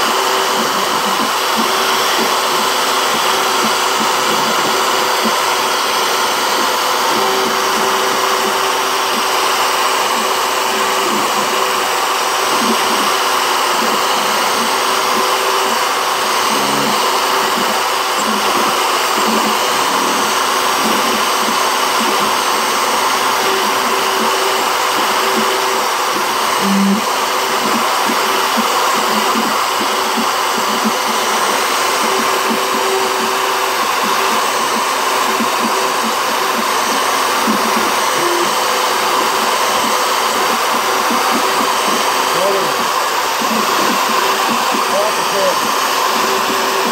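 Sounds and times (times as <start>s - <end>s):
bit cutting wood: 0.0s - 46.9s
router spindle whirring: 0.0s - 46.9s.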